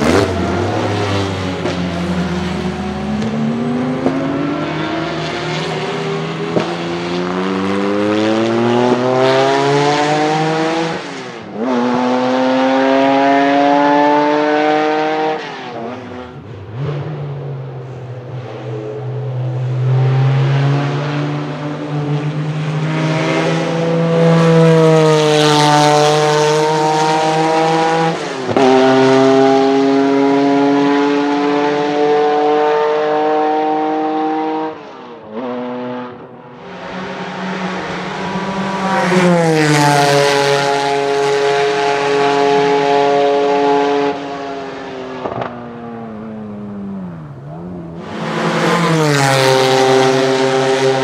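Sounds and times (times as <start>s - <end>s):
race car engine at high revs: 0.0s - 51.0s.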